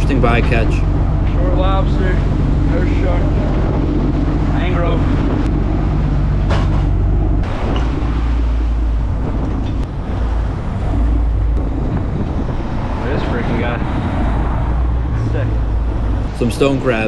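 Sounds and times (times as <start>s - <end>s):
boat engine running: 0.0s - 17.0s
sea rushing along hull: 0.0s - 17.0s
wind buffeting microphone: 0.0s - 17.0s.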